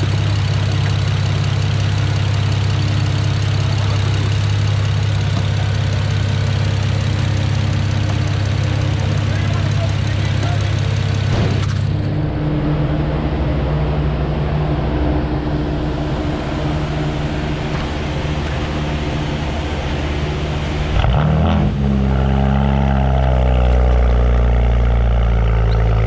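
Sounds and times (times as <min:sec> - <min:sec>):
car engine idling exhaust: 0:00.0 - 0:26.0.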